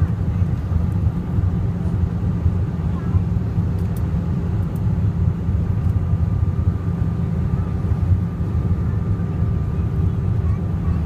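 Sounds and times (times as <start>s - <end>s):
low rumble of engines and airflow: 0.0s - 11.0s.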